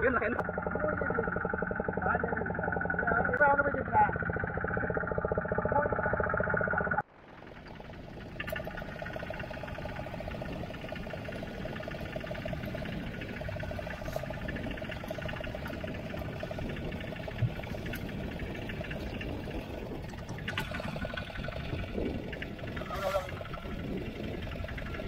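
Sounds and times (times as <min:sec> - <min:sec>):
boat engine running: 0:00.0 - 0:25.0
water washing along hull: 0:00.0 - 0:25.0.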